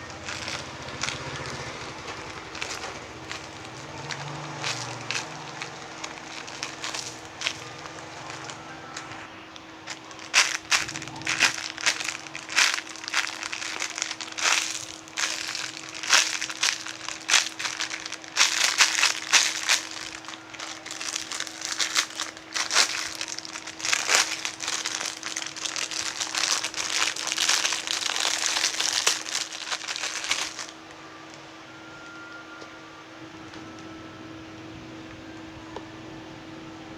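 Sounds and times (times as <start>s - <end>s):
plastic packaging crinkling: 0.0s - 30.9s
faint steady hum: 0.0s - 36.9s.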